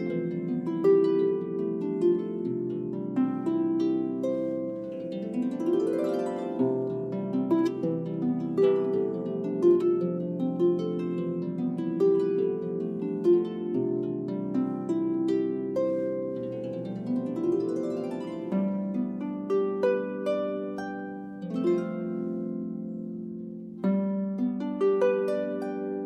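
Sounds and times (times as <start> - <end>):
harp plucked notes: 0.0 - 26.0.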